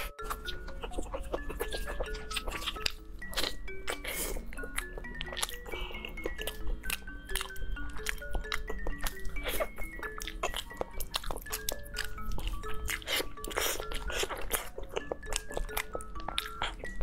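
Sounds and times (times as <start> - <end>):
chewing and biting: 0.0 - 17.0
plucked chime-like background music: 0.0 - 17.0.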